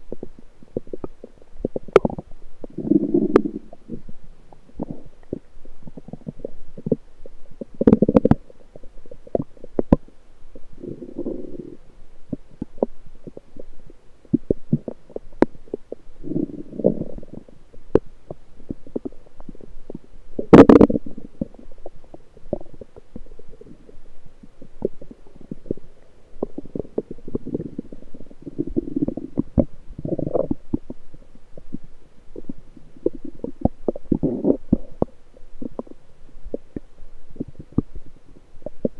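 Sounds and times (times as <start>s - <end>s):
low bowel gurgling: 0.1s - 38.9s.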